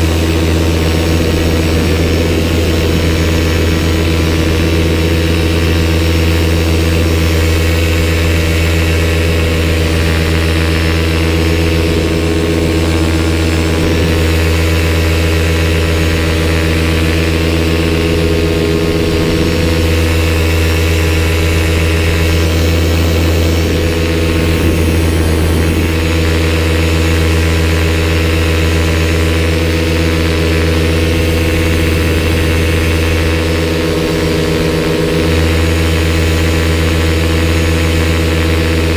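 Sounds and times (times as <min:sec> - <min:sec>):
paramotor engine droning: 0:00.0 - 0:38.9.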